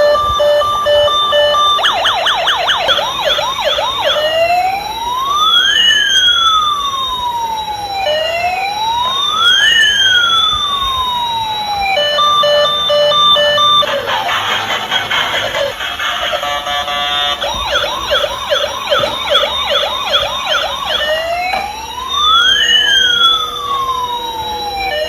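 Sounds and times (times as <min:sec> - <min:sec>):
electronic siren yelp and wail: 0:00.0 - 0:25.0.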